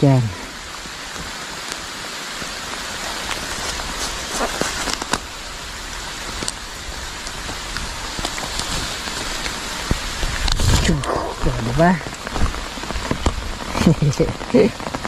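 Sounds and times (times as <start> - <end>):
steady rain: 0.0 - 15.0
raindrop ticks: 0.7 - 15.0.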